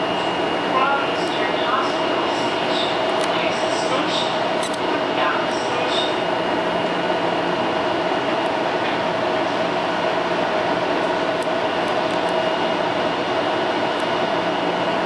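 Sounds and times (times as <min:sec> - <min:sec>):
train car humming: 0:00.0 - 0:15.0.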